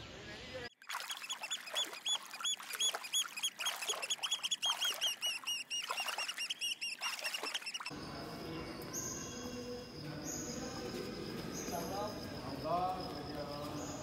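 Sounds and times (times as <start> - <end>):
small birds chirping: 0.9 - 14.0.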